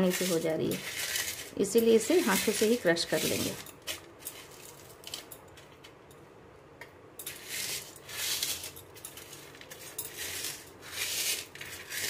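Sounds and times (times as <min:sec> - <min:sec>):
scratchy rustling: 0:00.0 - 0:05.9, 0:07.3 - 0:12.0.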